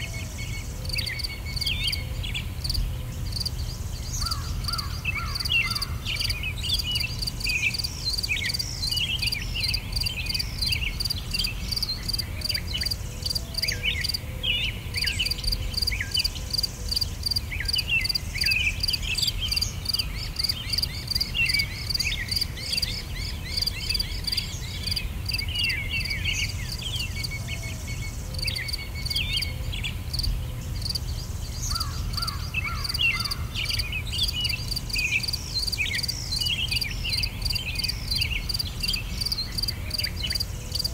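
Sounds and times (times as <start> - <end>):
insects chirring: 0.0 - 14.2, 14.9 - 40.9.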